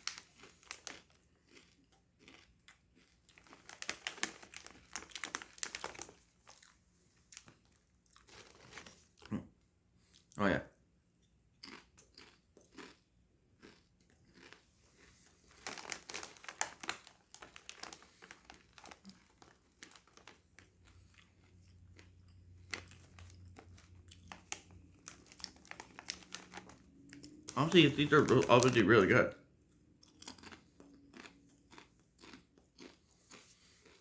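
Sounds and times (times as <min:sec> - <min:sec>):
crunching tortilla chips: 0:00.0 - 0:09.4, 0:11.6 - 0:29.2, 0:30.0 - 0:34.0.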